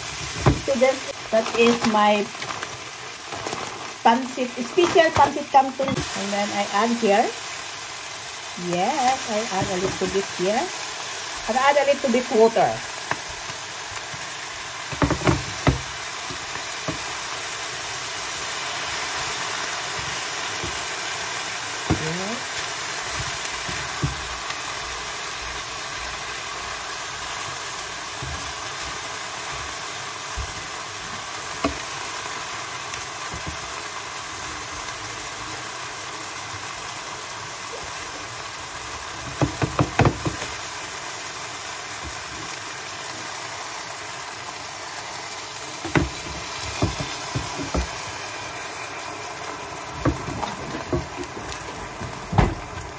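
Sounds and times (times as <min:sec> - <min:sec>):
noodles sizzling in pan: 0:00.0 - 0:52.9.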